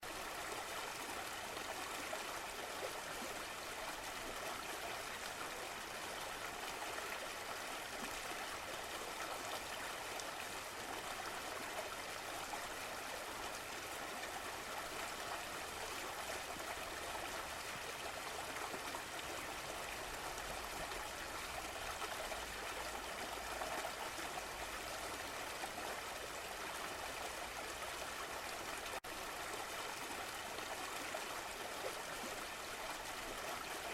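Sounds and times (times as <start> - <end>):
water flowing and trickling: 0.0 - 33.9.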